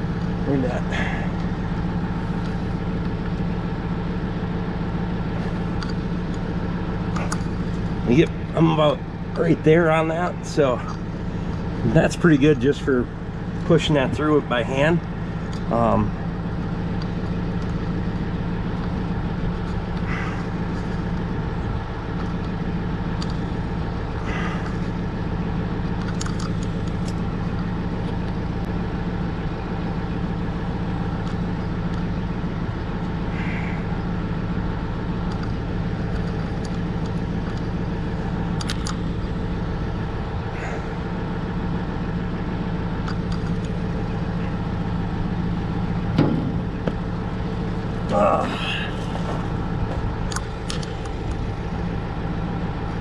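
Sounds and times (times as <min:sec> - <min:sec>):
engine idling hum: 0:00.0 - 0:53.0.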